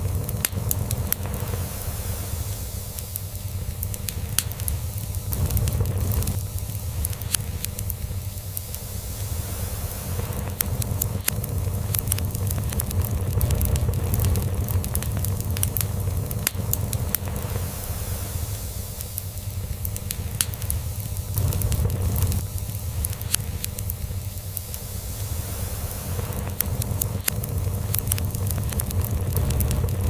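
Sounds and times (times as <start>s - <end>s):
log fire crackling and popping: 0.0s - 30.0s.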